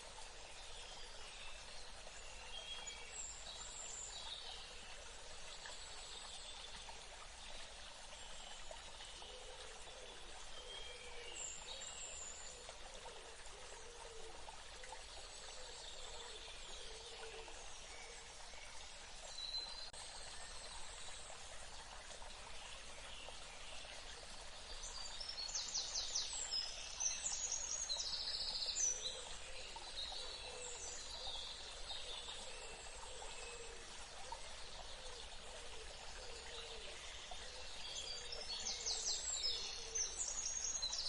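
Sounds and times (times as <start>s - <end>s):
flowing water rushing: 0.0s - 41.0s.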